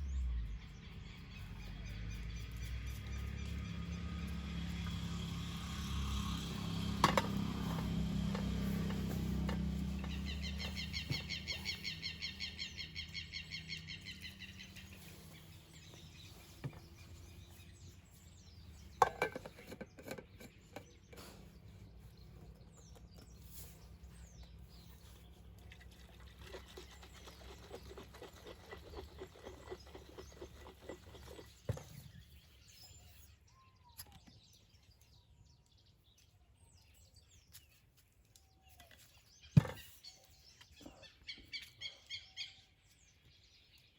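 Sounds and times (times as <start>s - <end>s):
birds trilling and chirping: 0.0s - 43.9s.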